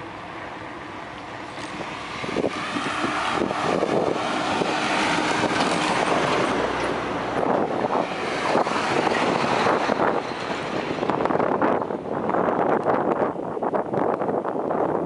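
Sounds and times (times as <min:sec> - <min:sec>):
dump truck passing: 0:00.0 - 0:13.1
wind on microphone: 0:01.4 - 0:15.0.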